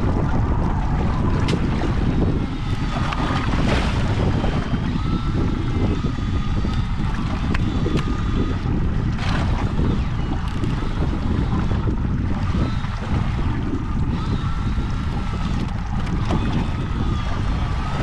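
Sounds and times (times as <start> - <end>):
sea noise: 0.0 - 18.0
wind buffeting microphone: 0.0 - 18.0.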